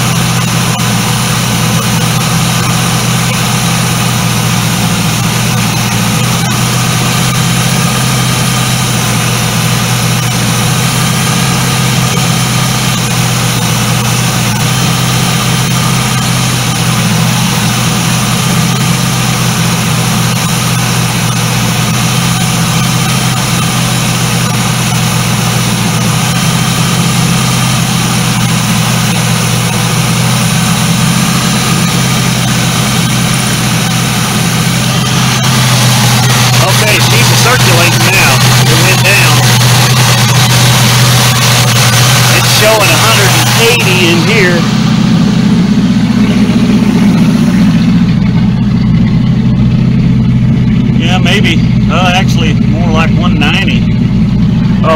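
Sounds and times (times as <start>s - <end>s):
car engine running: 0.0s - 54.9s.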